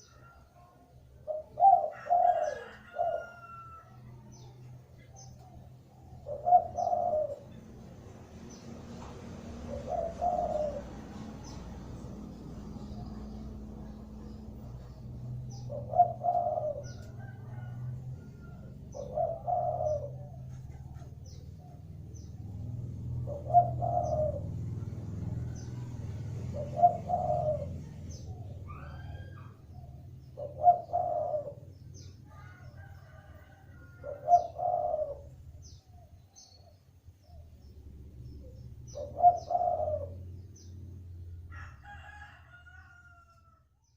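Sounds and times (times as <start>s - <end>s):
dove cooing: 0.0s - 7.8s, 8.4s - 42.2s
small birds chirping: 0.0s - 41.8s.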